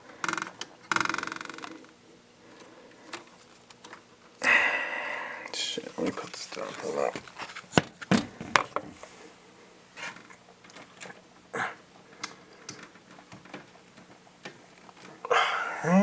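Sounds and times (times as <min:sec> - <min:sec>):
parts and wiring rustling: 0:00.0 - 0:04.4, 0:05.5 - 0:15.3.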